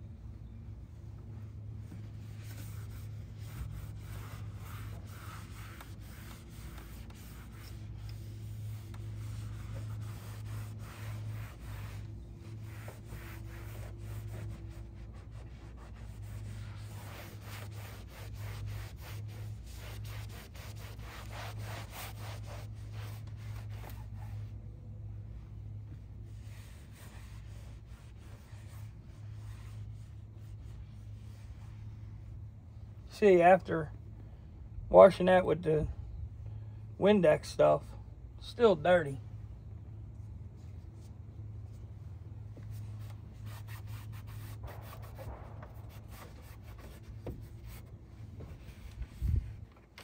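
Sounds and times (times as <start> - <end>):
low hum: 0.0 - 50.0
cloth rag wiping dashboard: 0.1 - 34.2, 36.8 - 50.0.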